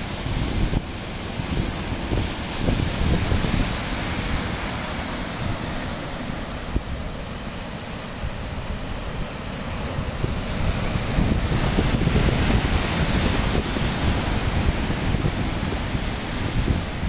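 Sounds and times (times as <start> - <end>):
surf breaking over rocks: 0.0 - 17.0
wind buffeting microphone: 0.0 - 17.0.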